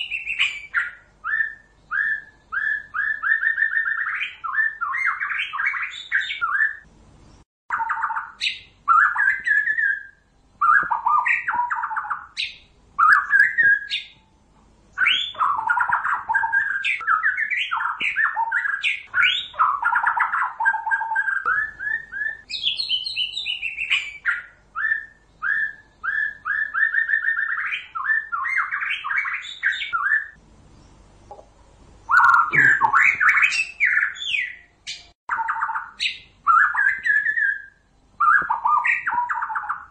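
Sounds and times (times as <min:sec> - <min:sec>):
bird singing whistled phrases: 0:00.0 - 0:06.9, 0:07.7 - 0:14.2, 0:14.9 - 0:30.4, 0:32.0 - 0:39.9.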